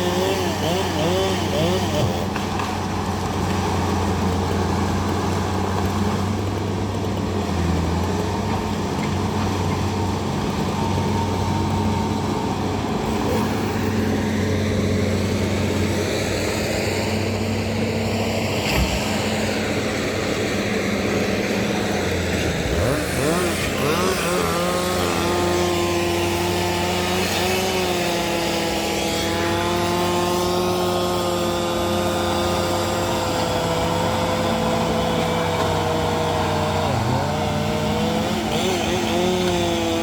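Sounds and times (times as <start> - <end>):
bulldozer diesel engine: 0.0 - 40.0.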